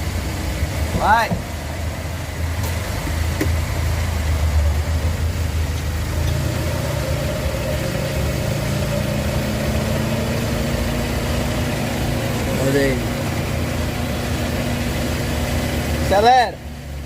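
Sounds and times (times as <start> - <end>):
driveshaft whine: 0.0 - 17.0
pickup driveshaft hum: 0.0 - 17.0
lower rising tone: 0.7 - 15.9.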